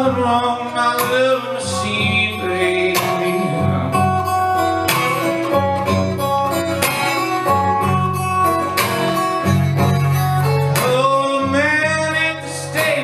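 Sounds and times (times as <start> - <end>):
acoustic guitar playing blues: 0.0 - 13.0
guitar strum: 0.0 - 13.0.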